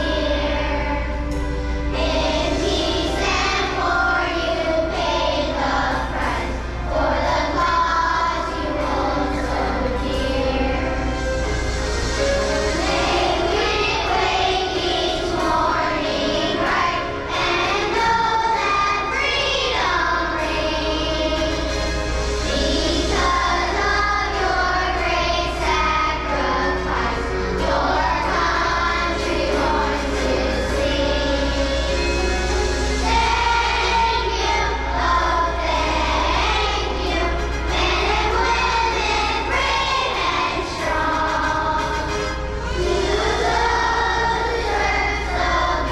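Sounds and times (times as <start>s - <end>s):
children singing together: 0.0s - 45.9s
musical accompaniment: 0.0s - 45.9s.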